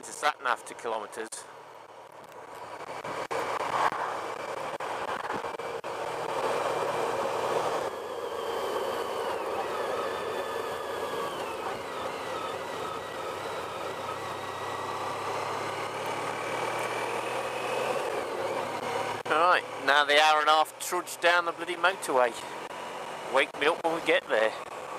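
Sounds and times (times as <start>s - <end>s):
wind and road noise: 0.0s - 24.9s
motorcycle engine: 0.7s - 24.9s.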